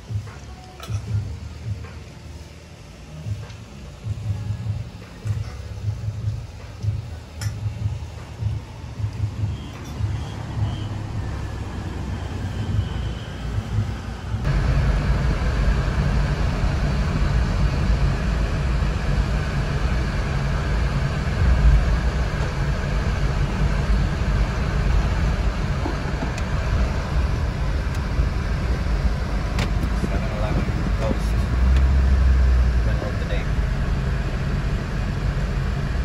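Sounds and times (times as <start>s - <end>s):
low rumble of room ambience: 0.0s - 36.0s
road and engine noise in car: 0.0s - 36.0s.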